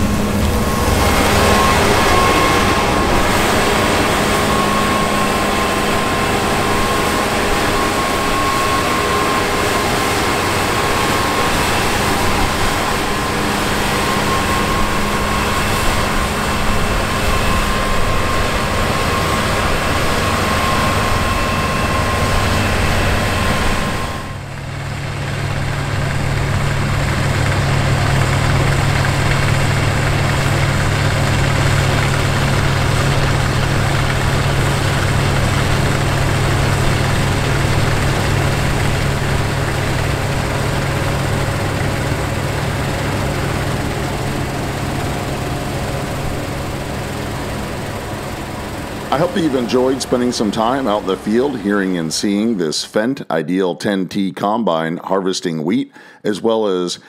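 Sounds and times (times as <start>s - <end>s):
faint steady whine: 0.0s - 52.8s
combine harvester engine droning: 0.0s - 54.9s.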